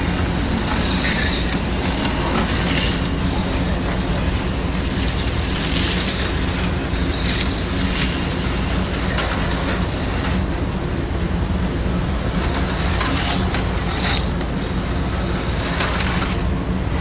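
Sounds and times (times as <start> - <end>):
high hiss rushes: 0.0 - 15.9
model cars and train rumbling: 0.0 - 17.0.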